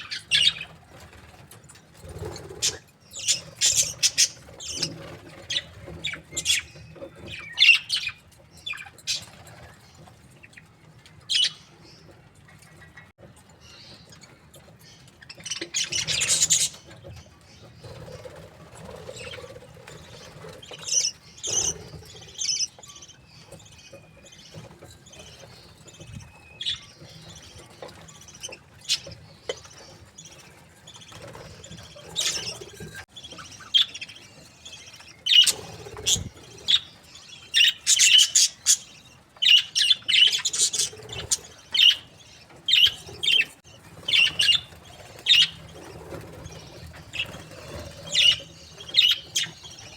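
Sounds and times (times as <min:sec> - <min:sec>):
budgerigars chirping: 0:00.0 - 0:10.6, 0:11.3 - 0:49.9.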